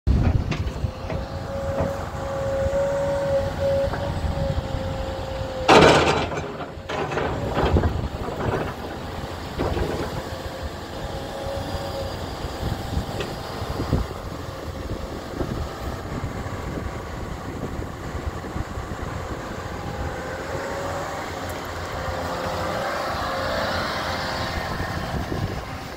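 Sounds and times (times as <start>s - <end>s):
excavator diesel engine running: 0.1s - 25.9s
steady hydraulic whine: 0.1s - 25.9s.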